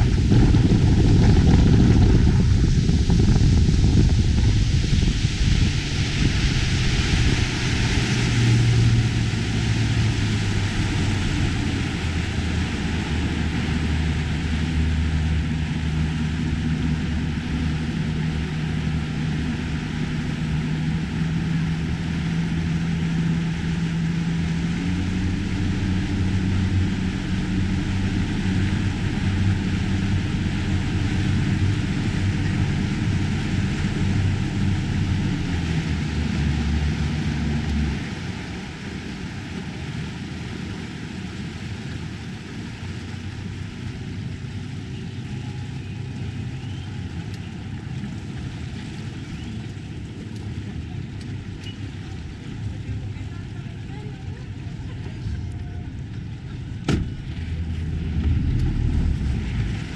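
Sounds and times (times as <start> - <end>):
motorboat engine running: 0.0 - 59.9
water rushing along hull: 0.0 - 59.9.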